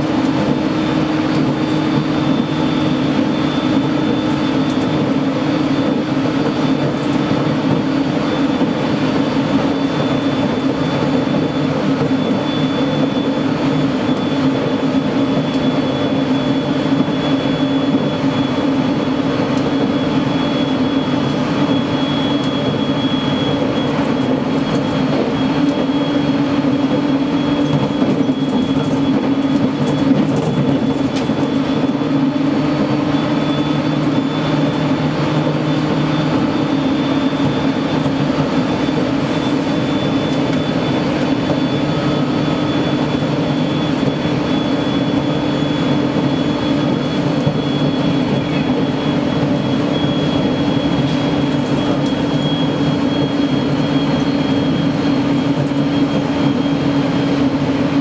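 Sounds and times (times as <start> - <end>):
wheels rumbling on rail: 0.0 - 58.0.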